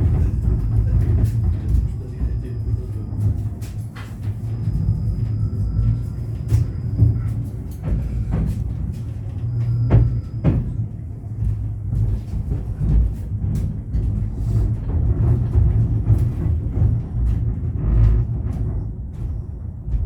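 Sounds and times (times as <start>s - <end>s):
knocks and clatter from tram: 0.0s - 20.0s
tram running rumble: 0.0s - 20.0s.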